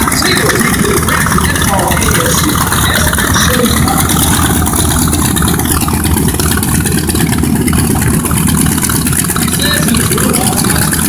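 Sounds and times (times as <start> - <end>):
airplane engine and propeller: 0.0 - 11.0.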